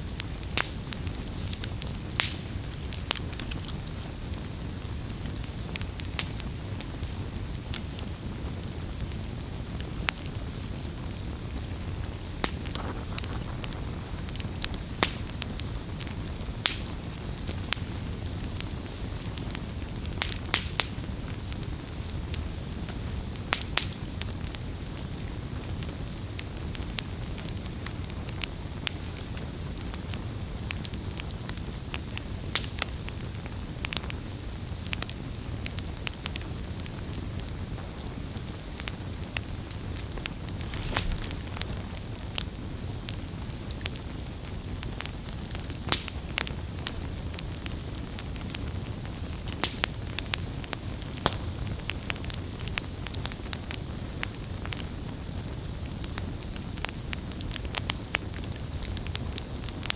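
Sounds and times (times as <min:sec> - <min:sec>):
campfire crackling: 0:00.0 - 0:59.9
low rumble of flames: 0:00.0 - 0:59.9.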